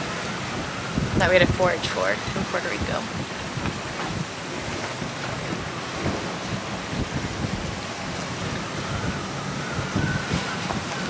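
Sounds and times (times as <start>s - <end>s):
strong wind rushing: 0.0s - 11.0s
water rushing around boat: 0.0s - 11.0s
wind buffeting microphone: 0.0s - 11.0s.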